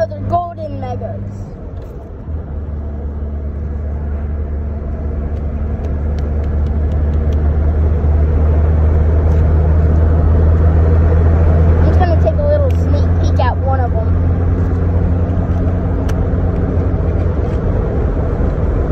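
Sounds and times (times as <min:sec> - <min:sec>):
road and engine noise in car: 0:00.0 - 0:18.9.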